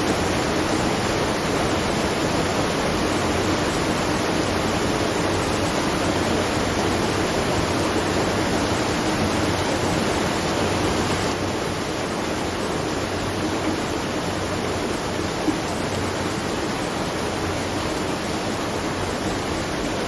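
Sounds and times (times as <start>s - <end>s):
water rushing and splashing: 0.0s - 20.0s.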